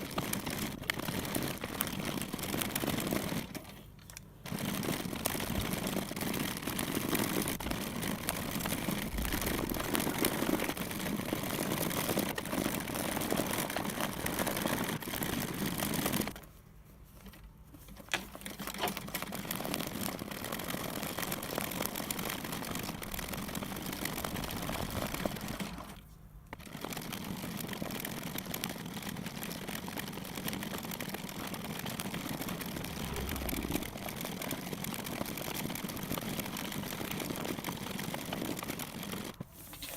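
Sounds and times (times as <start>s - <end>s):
needle and thread through cloth: 0.0s - 39.9s.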